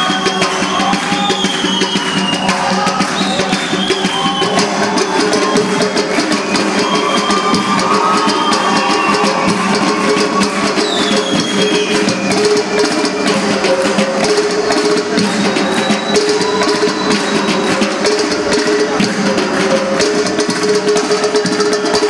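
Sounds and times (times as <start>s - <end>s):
drum ensemble playing fast rhythm: 0.0s - 22.0s.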